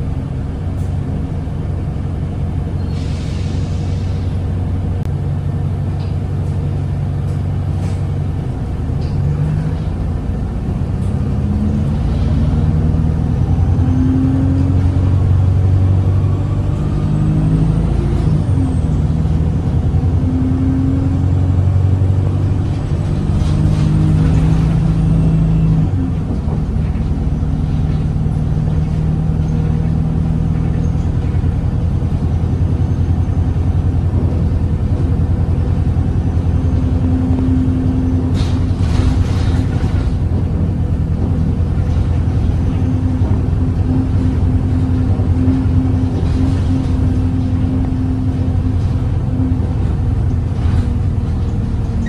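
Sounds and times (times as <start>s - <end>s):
bus diesel engine under load: 0.0s - 52.0s.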